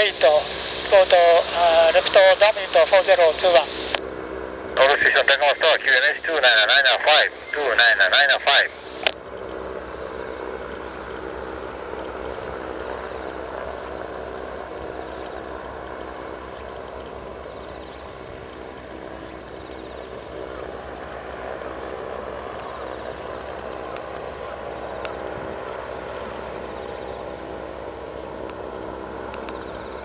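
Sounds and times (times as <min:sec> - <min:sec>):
propeller engine running: 0:00.0 - 0:30.0.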